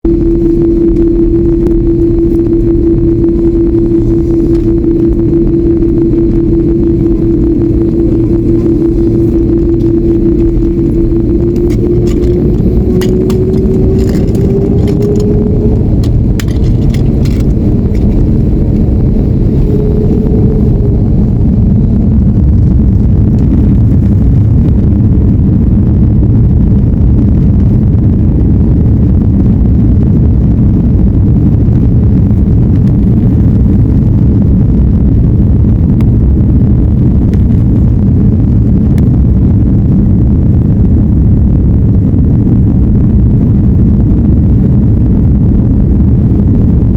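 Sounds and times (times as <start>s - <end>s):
jet engine whine rising: 0.0s - 46.9s
jet engines rumbling at takeoff: 0.0s - 46.9s.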